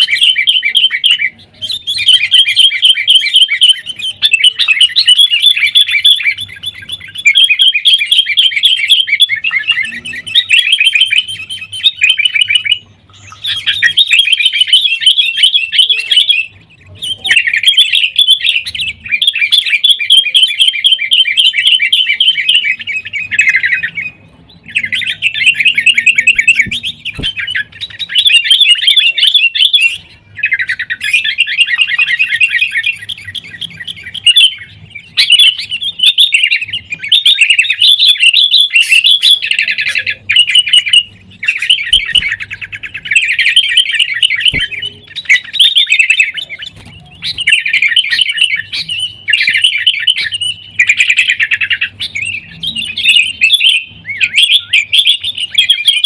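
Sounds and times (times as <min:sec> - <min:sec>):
bulbuls chattering calls: 0:00.0 - 0:56.0.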